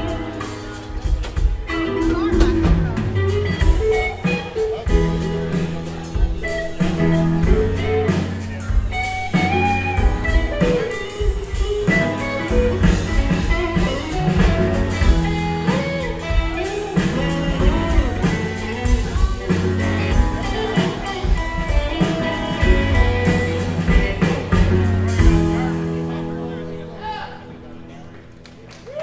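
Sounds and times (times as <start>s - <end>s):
rock drum beat: 0.0s - 26.3s
electric guitar: 0.0s - 26.9s.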